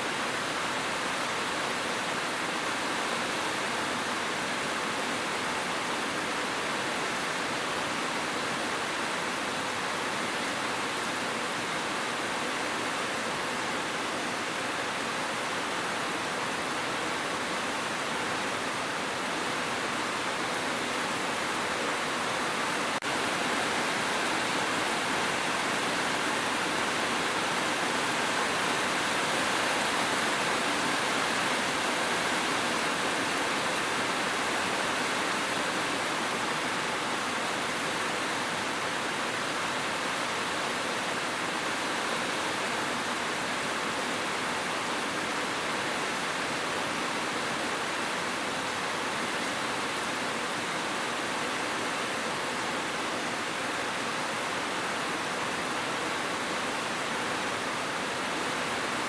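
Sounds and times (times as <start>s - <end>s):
rush of falling water: 0.0s - 59.0s.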